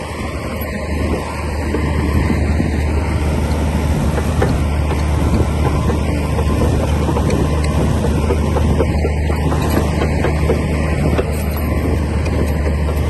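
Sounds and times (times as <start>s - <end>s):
bulldozer diesel engine running: 0.0s - 13.0s
metal clatter of tracks: 0.6s - 13.0s.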